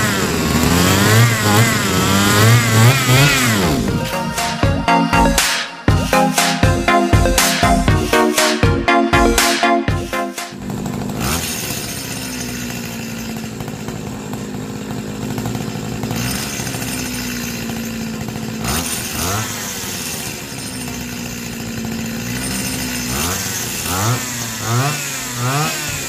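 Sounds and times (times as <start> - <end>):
grass trimmer engine revving: 0.0 - 8.2, 10.0 - 26.0.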